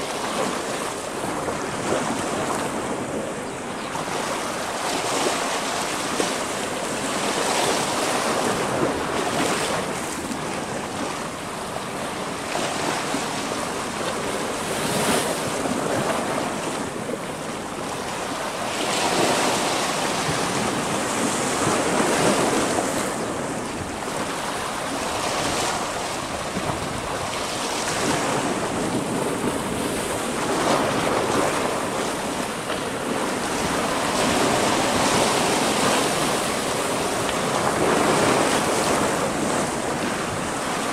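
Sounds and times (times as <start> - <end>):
waves breaking on rocky shore: 0.0 - 40.9.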